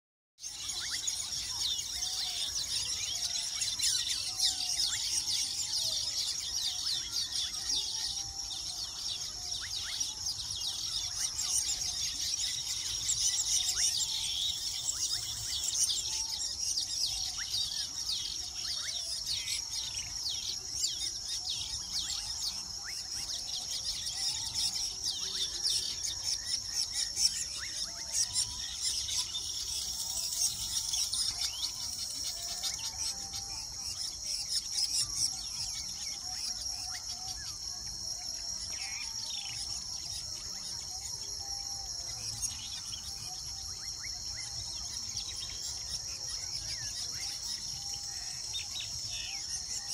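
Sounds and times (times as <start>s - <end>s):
high-pitched insect drone: 0.4s - 49.9s
weaver birds chattering: 0.4s - 49.9s.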